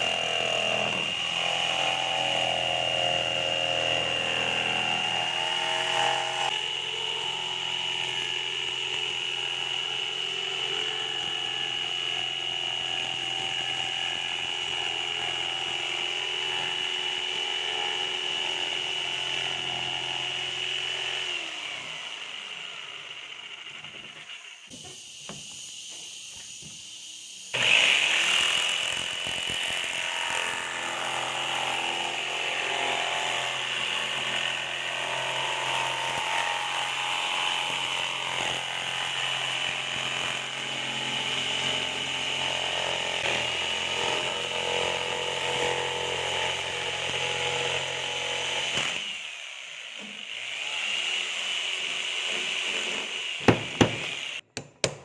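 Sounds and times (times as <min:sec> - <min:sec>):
electric power tool motor running: 0:00.0 - 0:26.6, 0:27.5 - 0:54.4.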